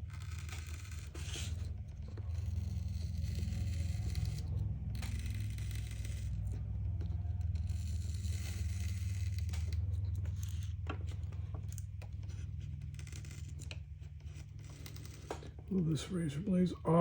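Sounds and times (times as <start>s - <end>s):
razor blade scraping glass: 0.0s - 15.6s.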